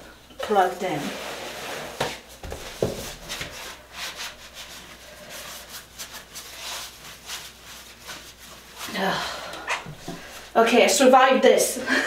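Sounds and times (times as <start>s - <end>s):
cloth scrubbing porcelain: 0.5s - 10.6s.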